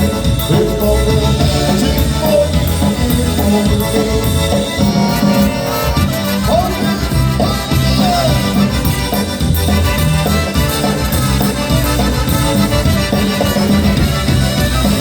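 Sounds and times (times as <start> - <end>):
polka band playing: 0.0 - 15.0.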